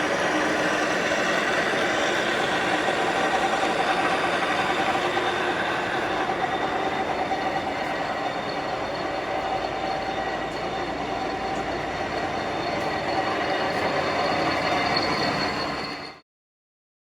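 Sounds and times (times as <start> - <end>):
gear whine: 0.0 - 16.2
lathe mechanical drone: 0.0 - 16.2.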